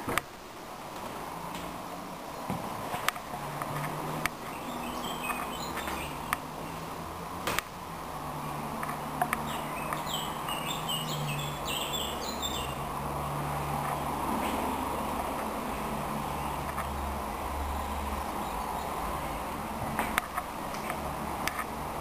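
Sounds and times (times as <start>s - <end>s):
songbirds chirping: 1.6s - 7.1s, 8.1s - 20.2s.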